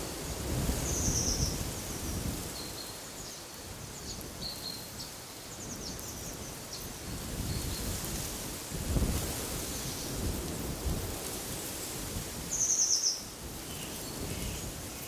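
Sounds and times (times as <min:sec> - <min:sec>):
wind gusting with low rumble: 0:00.0 - 0:15.0.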